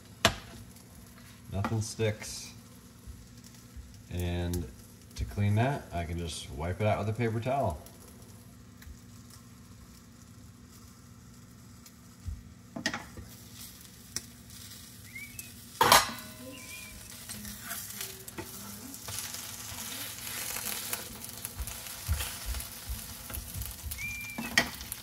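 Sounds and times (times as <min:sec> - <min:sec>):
faint sizzling: 0:00.0 - 0:25.0.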